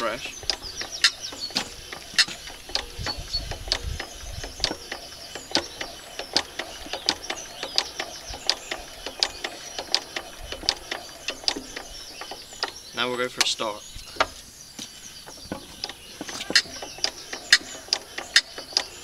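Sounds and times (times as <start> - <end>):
engine clicking: 0.0 - 14.5, 15.1 - 19.0.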